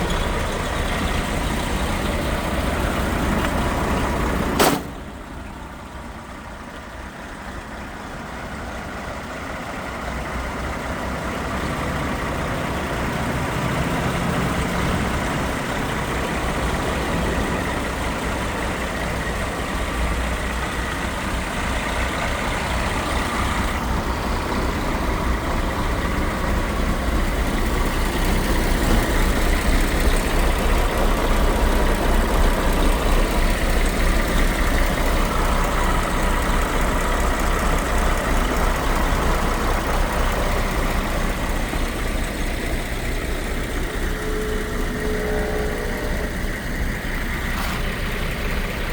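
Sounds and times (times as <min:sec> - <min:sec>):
diesel truck engine running: 0:00.0 - 0:48.9.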